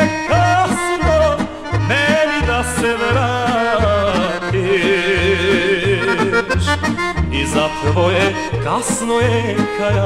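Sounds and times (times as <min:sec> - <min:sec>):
accordion melody with trills: 0:00.0 - 0:10.0
pulsing bass notes: 0:00.0 - 0:10.0.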